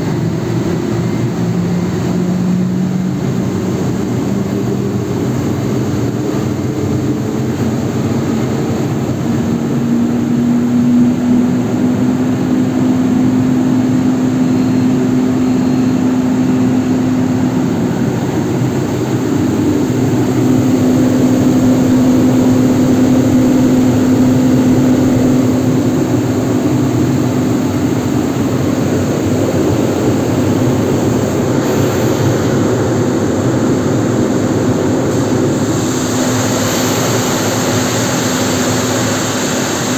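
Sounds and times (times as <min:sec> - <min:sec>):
furnace blowers rushing drone: 0:00.0 - 0:39.9
steady hum: 0:00.0 - 0:39.9.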